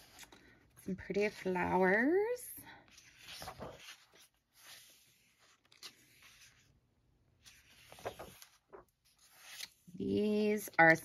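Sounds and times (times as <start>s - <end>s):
paper pages turning: 0.0s - 1.7s, 2.8s - 11.0s.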